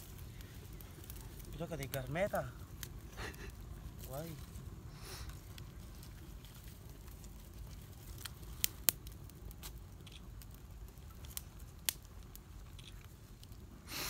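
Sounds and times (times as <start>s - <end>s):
fire of twigs crackling: 0.0s - 14.0s
low steady rumble: 0.0s - 14.0s.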